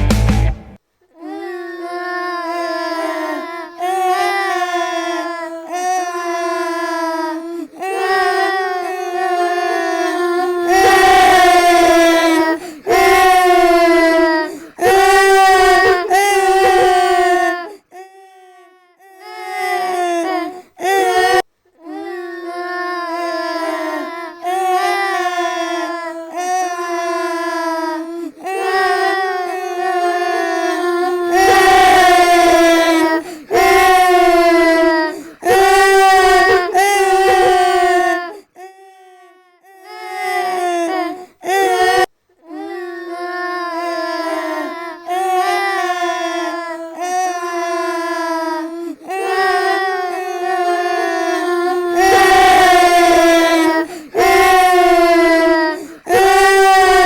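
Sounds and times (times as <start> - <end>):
girls crying in wails: 1.2 - 57.0.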